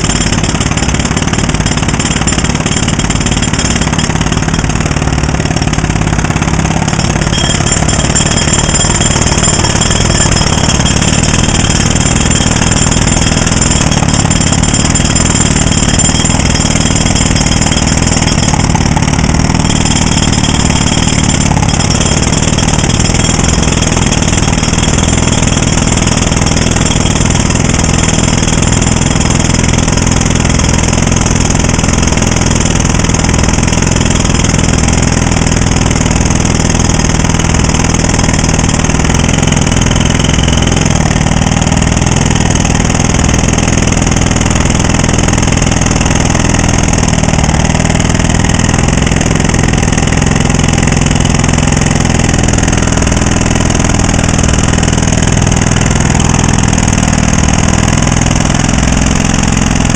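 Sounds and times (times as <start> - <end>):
jackhammer hammering concrete: 0.0 - 59.9.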